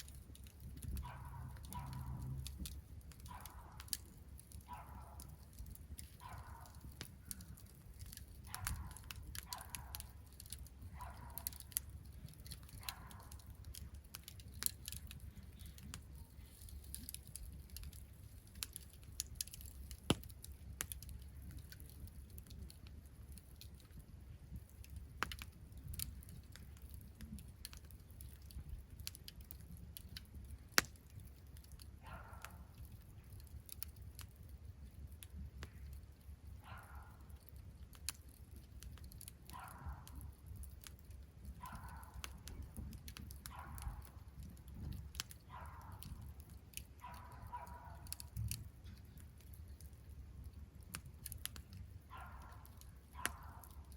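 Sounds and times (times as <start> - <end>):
sharp fire pops: 0.0 - 34.3, 35.2 - 36.0, 37.4 - 50.0
campfire crackling: 0.0 - 53.9.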